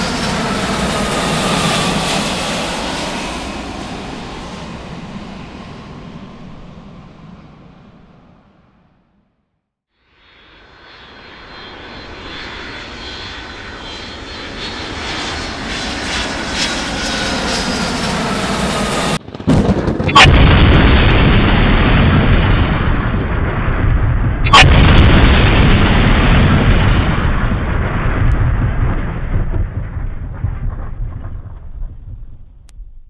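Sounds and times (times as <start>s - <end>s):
aircraft engines: 0.0s - 9.4s, 10.0s - 28.4s.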